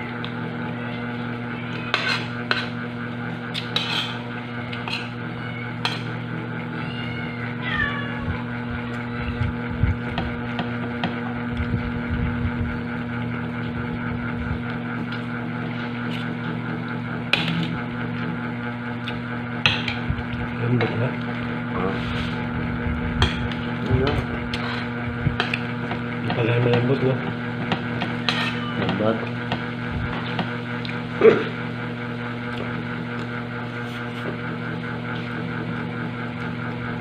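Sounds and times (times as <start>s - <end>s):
mechanical droning hum: 0.0s - 37.0s.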